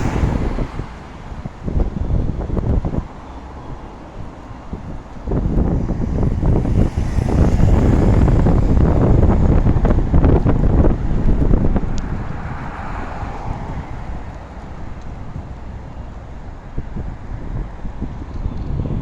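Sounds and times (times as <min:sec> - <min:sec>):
wind gusting on microphone: 0:00.0 - 0:19.0.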